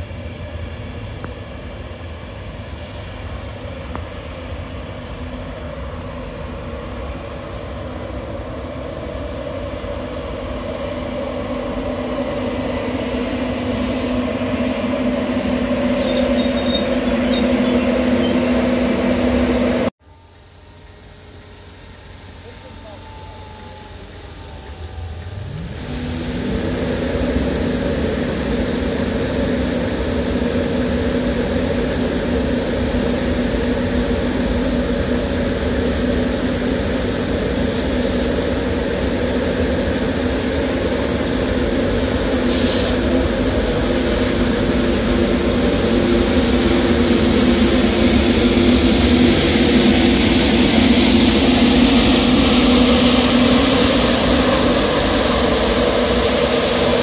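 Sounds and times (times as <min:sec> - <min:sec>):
electric locomotive hum: 0:00.0 - 0:57.0
wheel and rail noise: 0:00.0 - 0:57.0.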